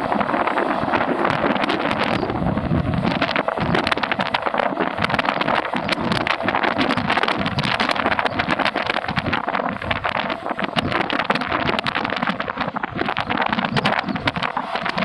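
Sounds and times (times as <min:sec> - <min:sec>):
rapid clicks and clatter: 0:00.0 - 0:15.0
train wheels rumbling on rail: 0:00.0 - 0:15.0
wind buffeting microphone: 0:00.0 - 0:15.0.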